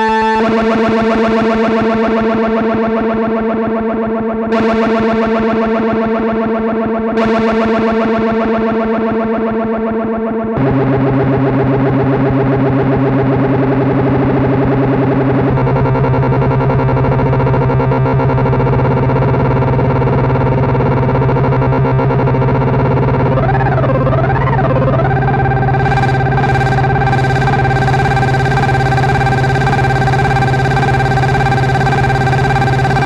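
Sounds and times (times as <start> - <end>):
synthesizer low drone note: 0.0 - 33.0.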